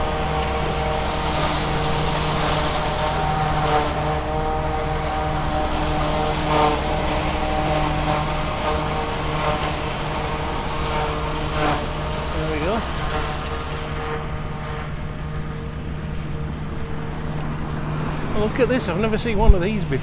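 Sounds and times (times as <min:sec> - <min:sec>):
tractor engine droning: 0:00.0 - 0:20.0
wind rumble on microphone: 0:00.0 - 0:20.0.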